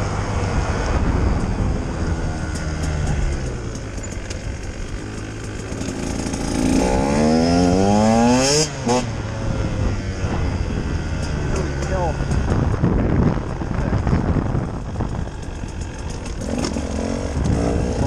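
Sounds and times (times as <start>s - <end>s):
two-stroke engine revving: 1.7s - 13.0s, 14.5s - 18.0s.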